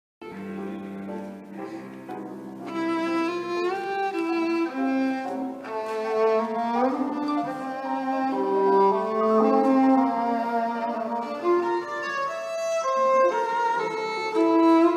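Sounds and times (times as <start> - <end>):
violin melody: 0.2 - 14.9.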